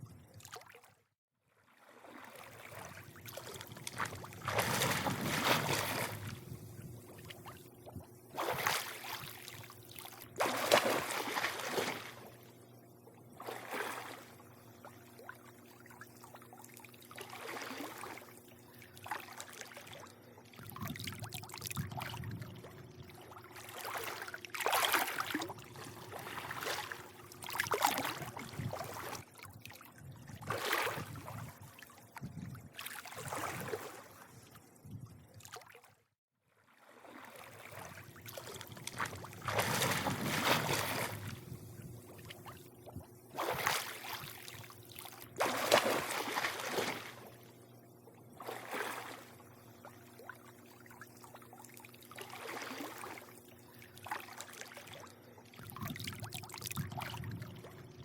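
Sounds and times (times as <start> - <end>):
pool water lapping and sloshing: 0.0 - 58.0
steady low hum: 2.6 - 35.5, 37.3 - 58.0.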